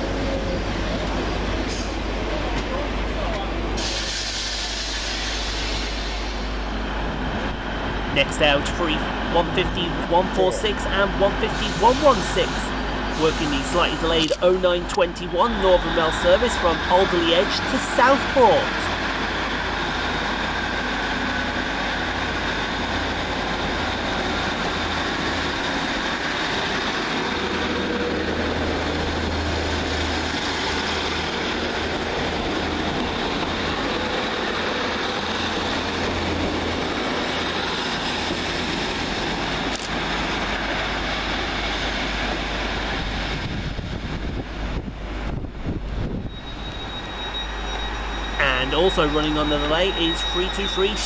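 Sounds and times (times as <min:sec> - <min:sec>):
diesel train engines rumbling: 0:00.0 - 0:51.0.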